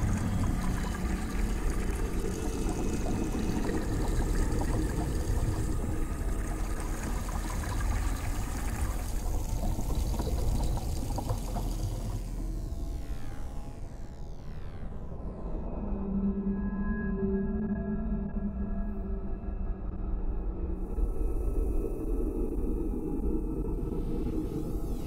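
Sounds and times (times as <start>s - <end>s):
dark ambient music: 0.0s - 25.0s.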